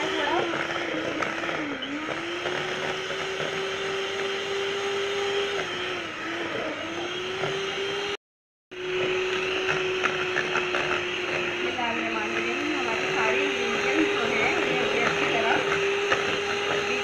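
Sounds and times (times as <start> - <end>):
electric hand mixer whirring: 0.0 - 17.0.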